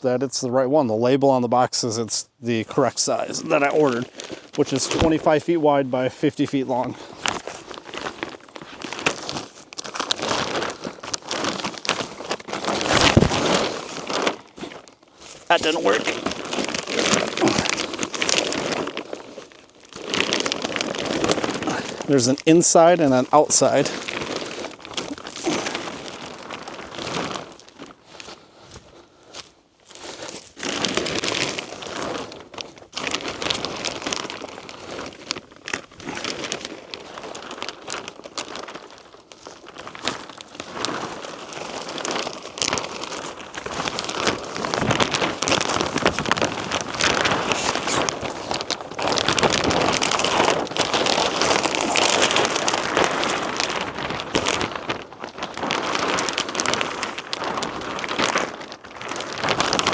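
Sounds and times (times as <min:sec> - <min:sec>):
plastic film crinkling: 0:02.4 - 0:59.9.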